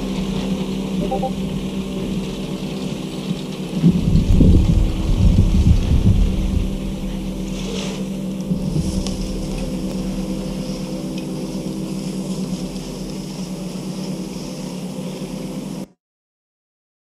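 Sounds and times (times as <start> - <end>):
chairlift motor humming: 0.0 - 15.9.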